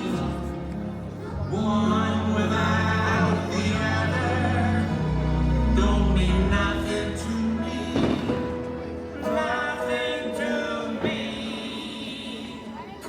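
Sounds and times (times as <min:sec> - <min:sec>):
choir singing music: 0:00.0 - 0:13.0.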